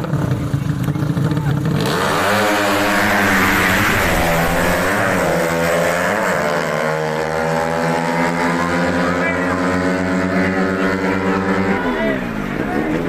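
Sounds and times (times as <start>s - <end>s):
low engine drone: 0.0s - 13.0s
motorcycle engine revving: 0.0s - 13.0s.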